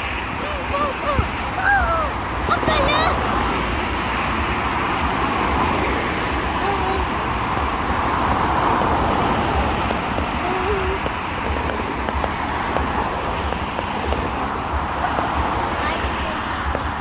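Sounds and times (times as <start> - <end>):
crowd murmur: 0.0 - 17.0
wind buffeting microphone: 0.0 - 17.0.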